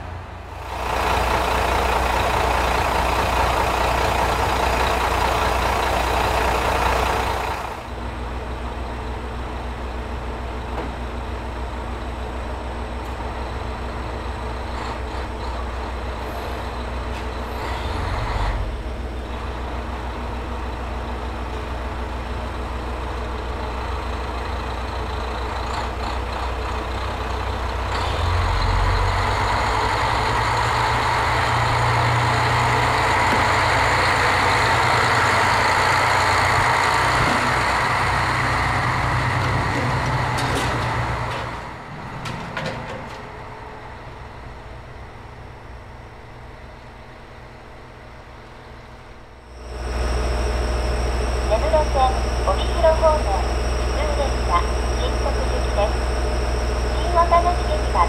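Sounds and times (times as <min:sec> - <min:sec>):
diesel railcars idling: 0:00.0 - 0:58.0.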